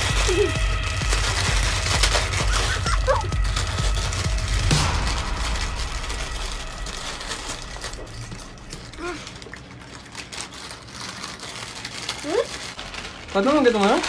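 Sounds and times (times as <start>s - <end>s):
chip packets crinkling: 0.0s - 14.0s.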